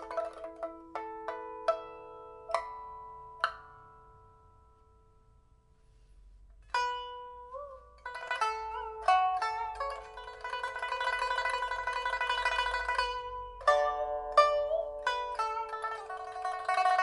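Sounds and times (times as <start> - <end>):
pipa plucked notes ringing: 0.0 - 5.5, 6.7 - 17.0.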